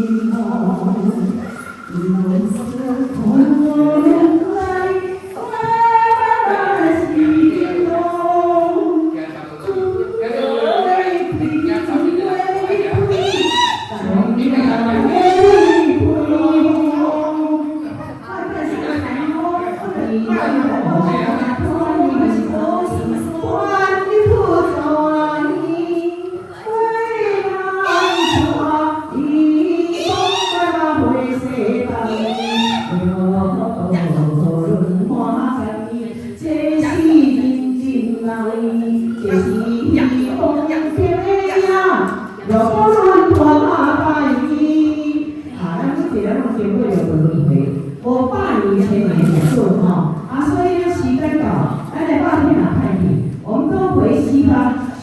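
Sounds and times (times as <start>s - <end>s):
woman singing devotional chant: 0.0s - 55.0s.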